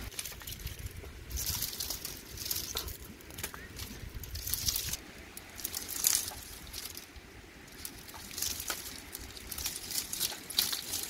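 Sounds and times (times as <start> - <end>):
fire snapping and popping: 0.0 - 11.0
twig fire crackling: 0.0 - 11.0.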